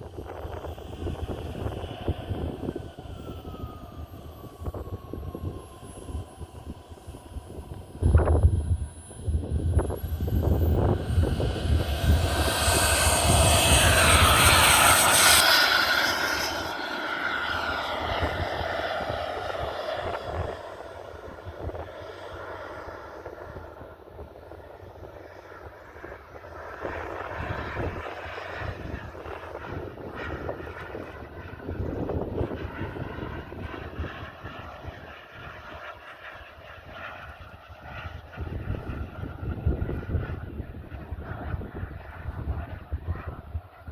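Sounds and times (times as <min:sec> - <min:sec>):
airplane engine whining: 0:00.0 - 0:43.9
wind noise on microphone: 0:00.0 - 0:43.9.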